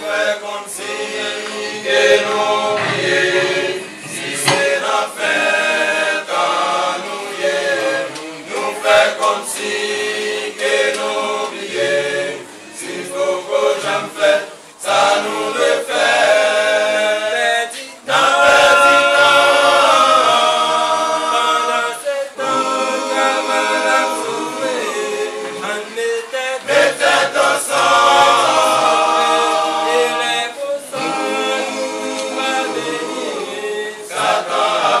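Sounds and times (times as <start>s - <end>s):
men singing a cappella: 0.0s - 35.0s.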